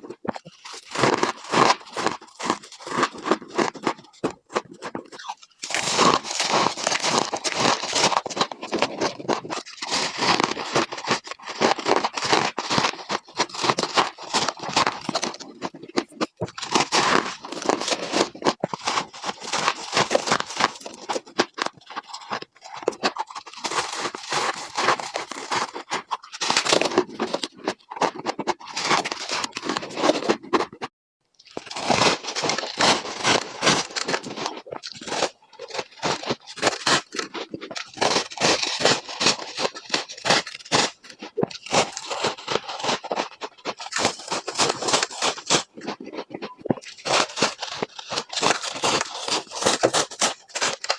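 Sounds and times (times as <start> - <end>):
ice crunched between teeth: 0.0 - 50.9.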